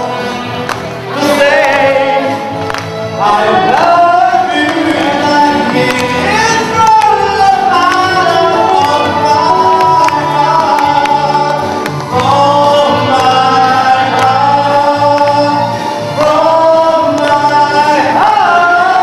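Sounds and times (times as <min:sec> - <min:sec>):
song with sung vocals: 0:00.0 - 0:19.0.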